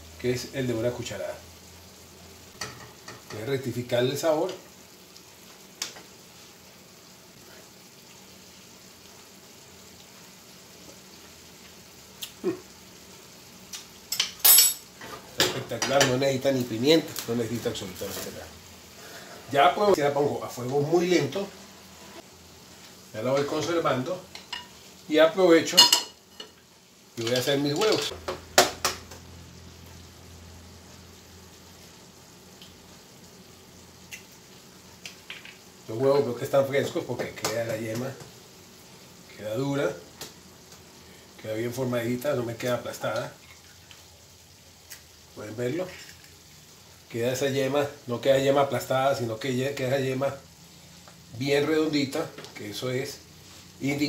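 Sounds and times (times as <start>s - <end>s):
oil sizzling in frying pan: 0.0s - 54.0s
sauce simmering in a skillet: 0.0s - 54.0s.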